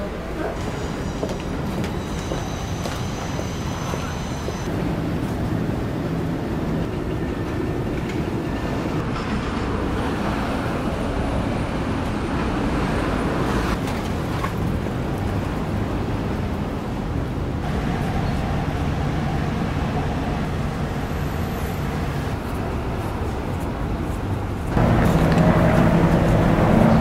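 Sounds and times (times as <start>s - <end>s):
vehicles rumbling: 0.0s - 27.0s.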